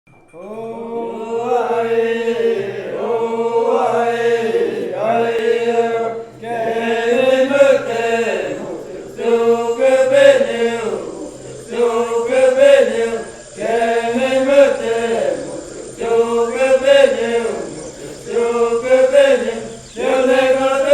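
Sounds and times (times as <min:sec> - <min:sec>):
vocal chant: 0:00.3 - 0:20.9.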